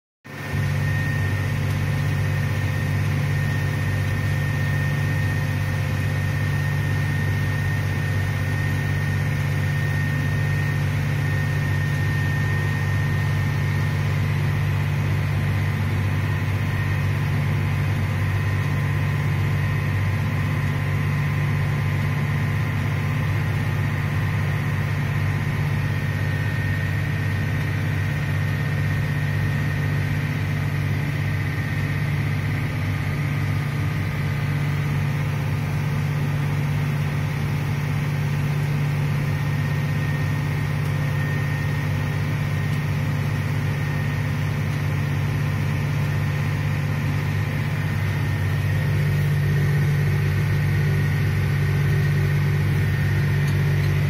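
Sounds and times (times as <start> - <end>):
tractor engine drone from cab: 0.2 - 54.0.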